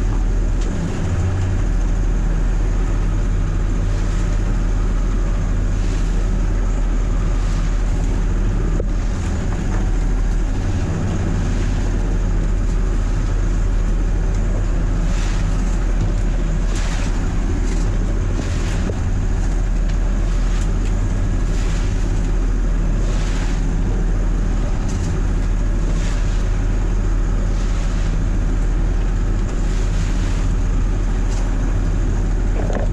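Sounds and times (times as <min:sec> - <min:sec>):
marine diesel engine running: 0:00.0 - 0:32.9
waves splashing against hull: 0:00.0 - 0:32.9.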